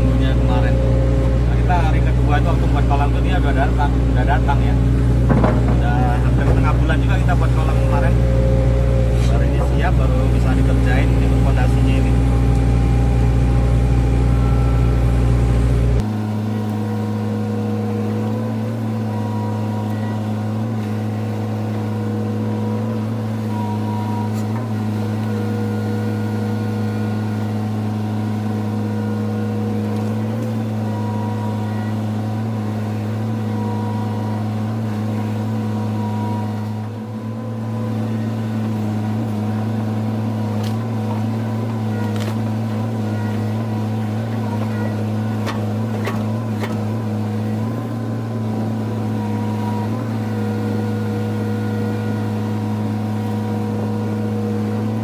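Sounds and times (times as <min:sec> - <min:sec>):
excavator diesel engine rumbling: 0:00.0 - 0:55.0.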